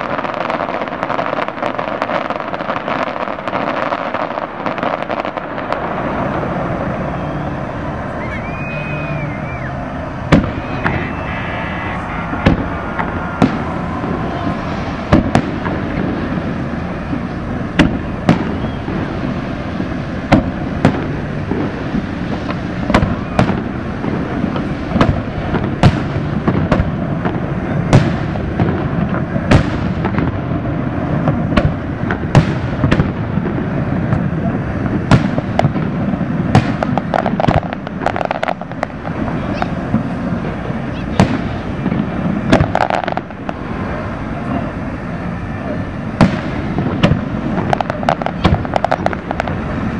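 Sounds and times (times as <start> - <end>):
fireworks shells booming: 0.0 - 49.9
crowd voices humming: 4.8 - 32.2, 37.0 - 49.9.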